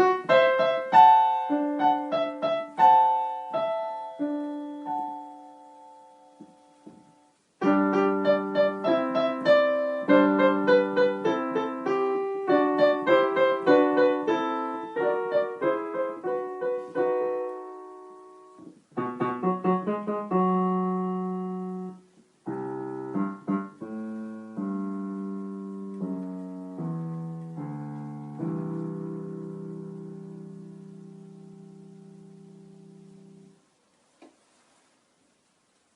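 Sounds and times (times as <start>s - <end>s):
piano piece: 0.0s - 33.8s.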